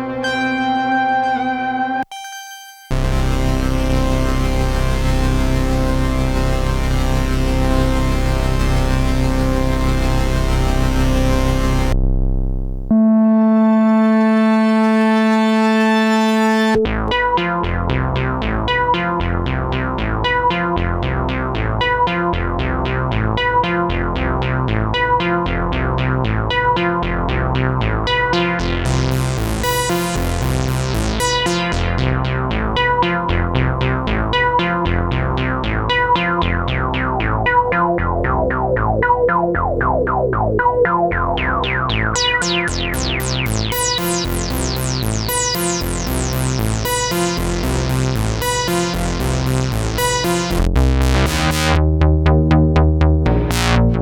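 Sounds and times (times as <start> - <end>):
synthesizer note pattern: 0.0 - 12.0, 12.9 - 17.9, 27.7 - 54.0
pulsing synth bass: 2.9 - 54.0.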